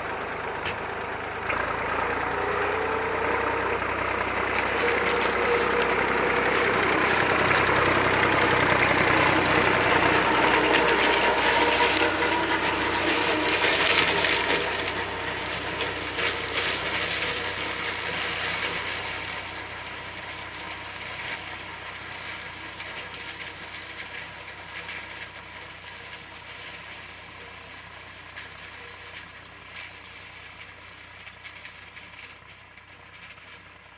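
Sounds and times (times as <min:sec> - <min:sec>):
forage harvester working: 0:00.0 - 0:33.9
tractor diesel engine: 0:00.0 - 0:33.9.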